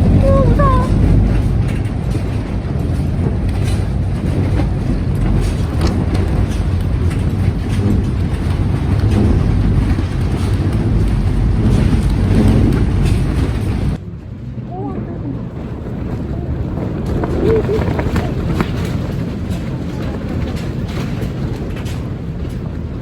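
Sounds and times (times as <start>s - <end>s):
gale wind buffeting microphone: 0.0s - 23.0s.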